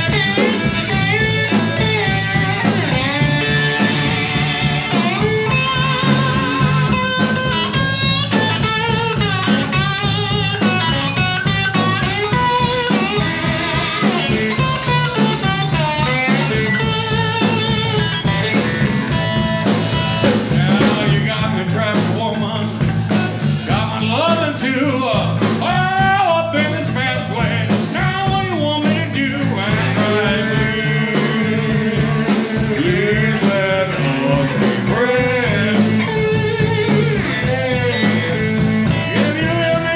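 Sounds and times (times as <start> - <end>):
electric slide guitar: 0.0 - 24.3, 29.1 - 39.9
drums: 0.0 - 39.9
electric bass: 0.0 - 39.9.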